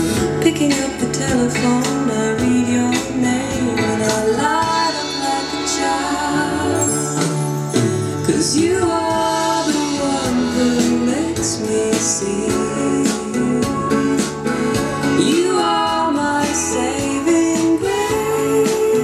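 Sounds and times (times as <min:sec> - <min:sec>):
pop song over speakers: 0:00.0 - 0:19.0.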